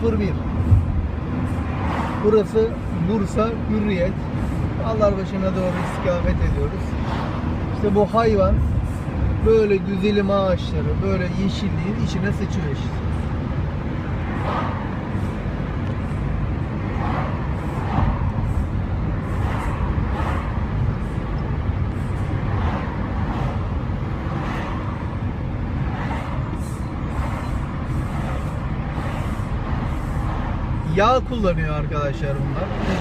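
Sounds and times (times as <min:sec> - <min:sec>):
vehicle driving in traffic: 0:00.0 - 0:33.0.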